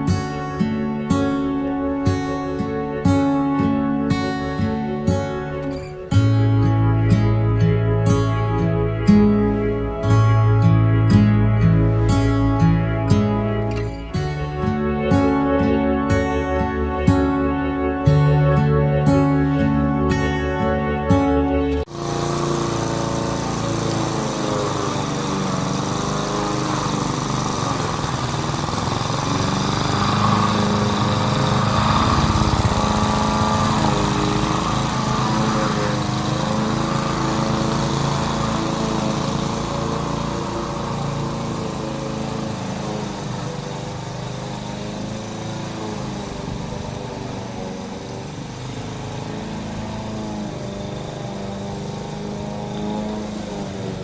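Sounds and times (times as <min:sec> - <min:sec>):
grass cutter engine running: 0:00.0 - 0:54.0.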